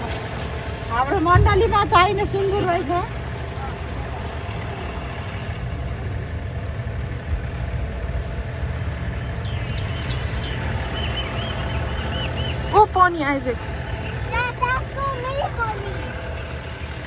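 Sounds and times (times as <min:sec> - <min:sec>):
tractor engine rumbling: 0:00.0 - 0:17.0.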